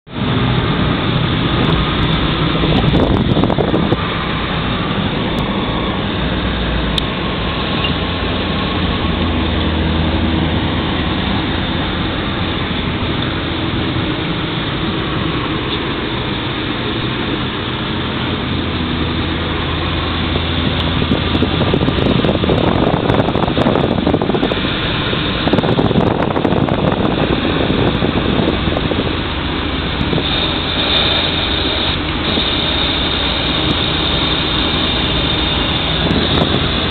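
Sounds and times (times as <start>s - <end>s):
car engine running: 0.0s - 36.9s
tyre and wind noise: 0.1s - 36.9s.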